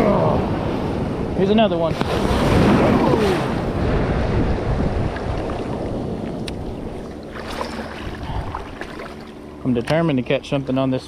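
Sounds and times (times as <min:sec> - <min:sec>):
wind buffeting microphone: 0:00.0 - 0:09.2
surf wave splashing: 0:00.0 - 0:09.4.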